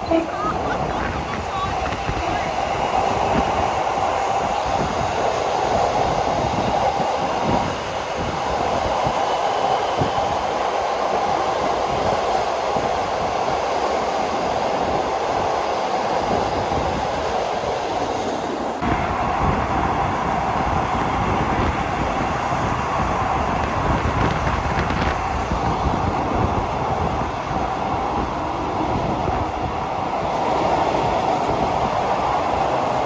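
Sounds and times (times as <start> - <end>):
train wheels rumbling and rattling: 0.0 - 33.0.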